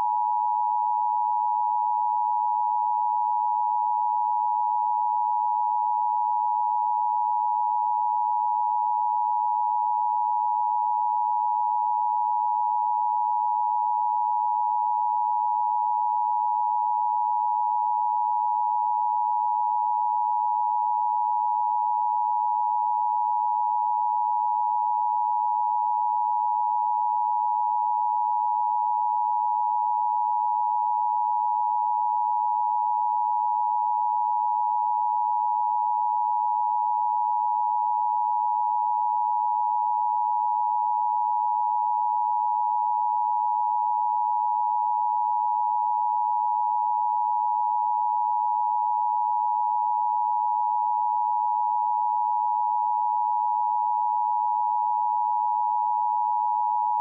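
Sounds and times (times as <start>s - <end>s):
electronic sine tones: 0.0s - 57.0s.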